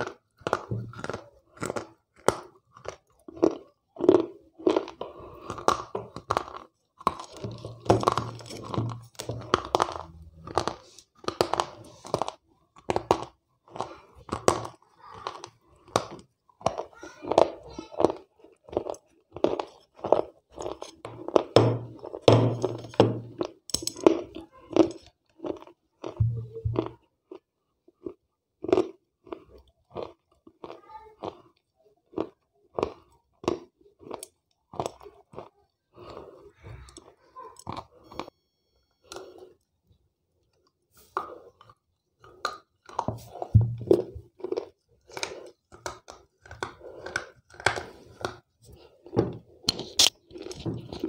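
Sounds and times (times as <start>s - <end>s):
crunching and chewing: 0.0s - 51.0s.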